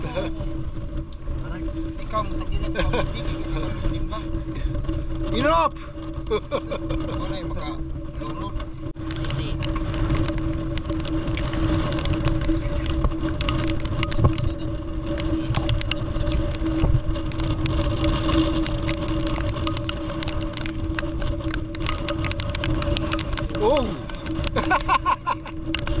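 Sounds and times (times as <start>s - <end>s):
boat engine droning: 0.0s - 26.0s
rushing noise: 0.0s - 26.0s
small sharp crackles: 0.0s - 26.0s.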